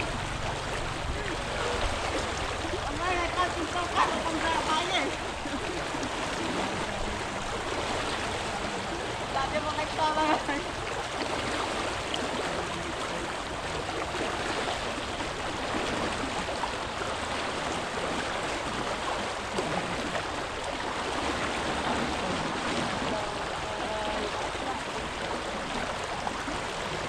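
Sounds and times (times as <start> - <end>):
water sloshing and splashing: 0.0 - 27.0.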